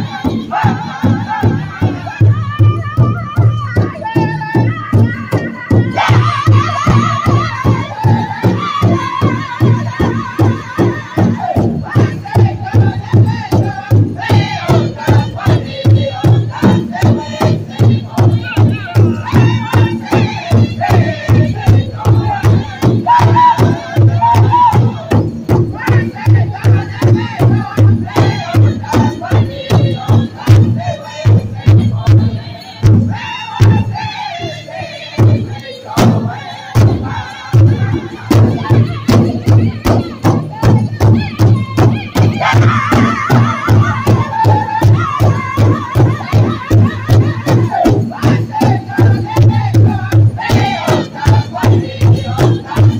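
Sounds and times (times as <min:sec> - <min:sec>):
large drum beating: 0:00.0 - 0:52.9
men singing in high voices: 0:00.0 - 0:52.9.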